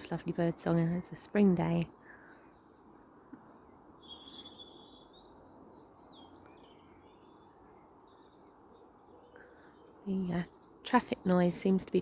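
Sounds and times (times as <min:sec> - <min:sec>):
distant traffic hum: 0:00.0 - 0:12.0
songbird chorus: 0:00.0 - 0:12.0.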